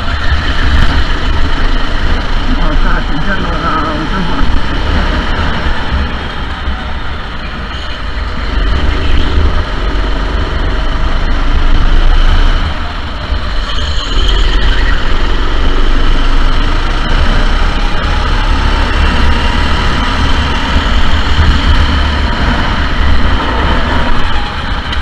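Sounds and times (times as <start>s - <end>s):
go-kart engine running under load: 0.0s - 25.0s.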